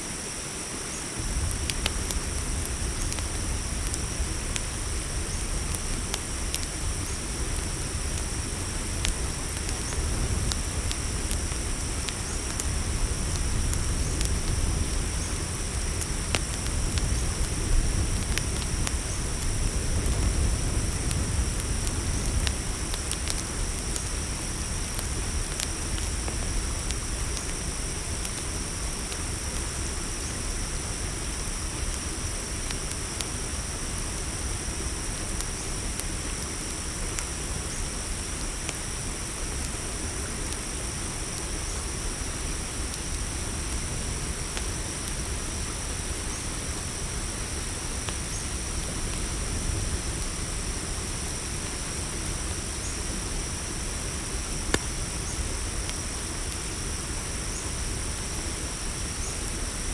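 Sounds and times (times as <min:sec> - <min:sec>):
campfire crackles: 0:00.0 - 0:59.9
crickets chirring: 0:00.0 - 0:59.9
low background hiss: 0:00.0 - 0:59.9.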